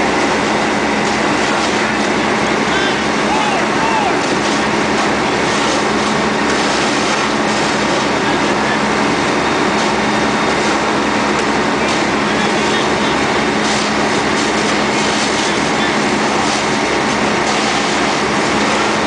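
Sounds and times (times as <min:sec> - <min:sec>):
fire hose water spraying: 0:00.0 - 0:19.0.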